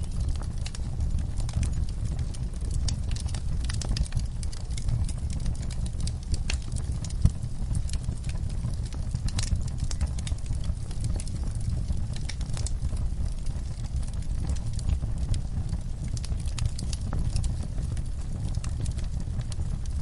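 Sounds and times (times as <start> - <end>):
fire crackling and popping: 0.0 - 20.0
low fire rumble: 0.0 - 20.0.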